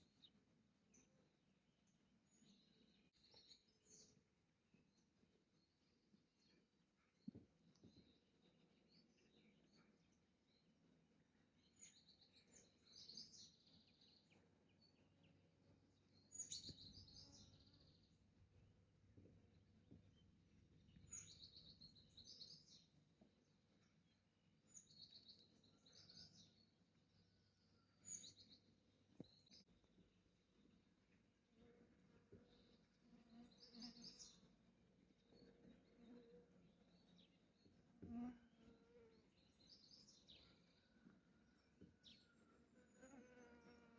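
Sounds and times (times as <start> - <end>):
songbird singing: 0.0 - 31.3, 32.3 - 43.9.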